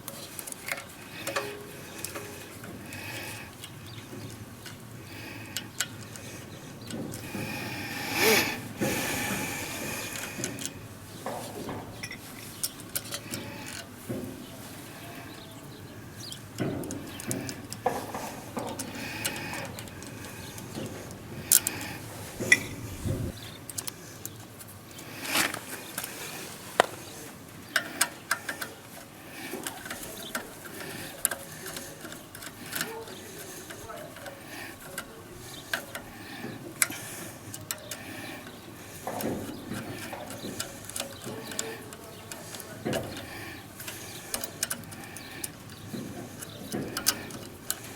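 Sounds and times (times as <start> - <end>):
hand tools clicking and tapping metal: 0.0 - 47.9
scraping rustle: 0.0 - 47.9.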